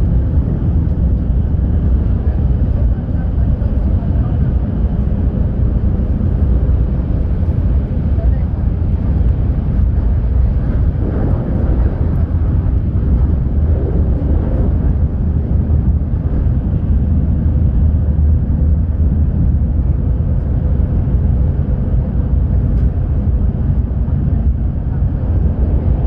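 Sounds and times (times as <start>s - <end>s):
train rumble inside car: 0.0s - 26.0s.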